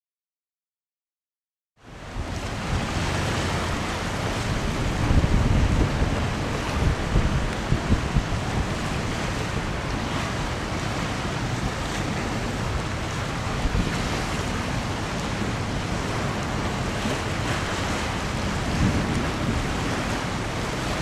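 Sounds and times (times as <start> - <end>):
choppy river water washing: 1.8 - 21.0
wind buffeting microphone: 1.9 - 21.0.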